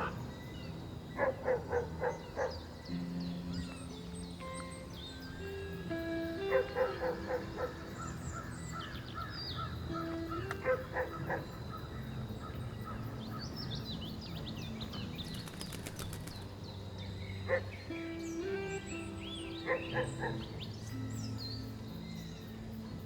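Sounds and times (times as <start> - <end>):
birds chirping: 0.0 - 23.0
loud harsh bird calls: 0.0 - 23.0
soft background music: 0.0 - 23.0.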